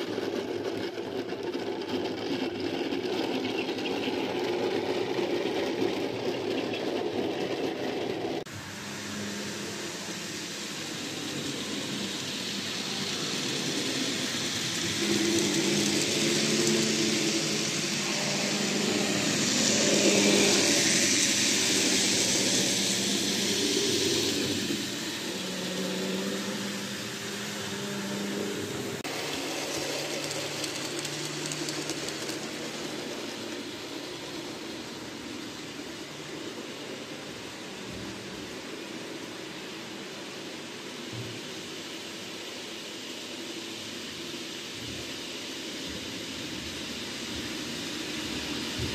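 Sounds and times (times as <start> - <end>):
model train motor hum: 0.0 - 48.9
wheels hissing on track: 0.0 - 48.9.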